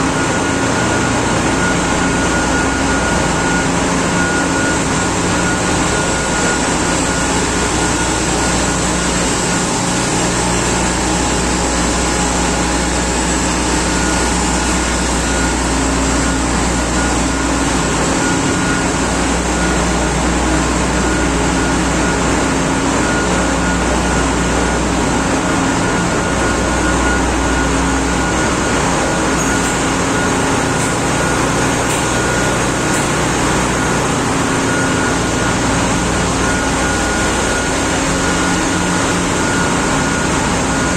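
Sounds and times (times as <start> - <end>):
engine room machinery din: 0.0 - 40.9.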